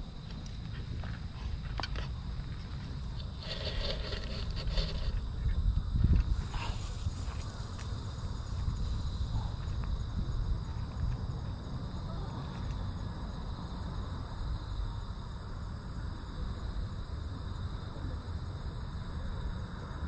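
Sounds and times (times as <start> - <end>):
constant low rumble: 0.0 - 20.0
insects trilling: 0.0 - 20.0.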